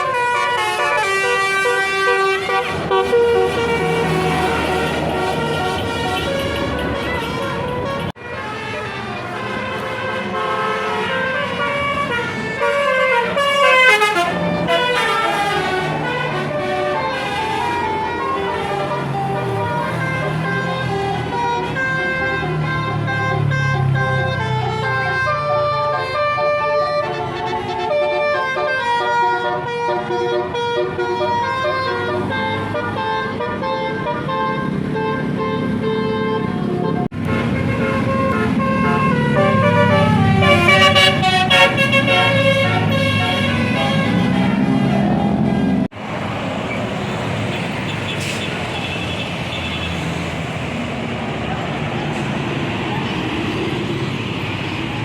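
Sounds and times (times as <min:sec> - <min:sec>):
musical bus air horn: 0:00.0 - 0:46.0, 0:47.5 - 0:50.2
bus engine running: 0:00.0 - 0:55.0
road traffic noise: 0:00.0 - 0:55.0.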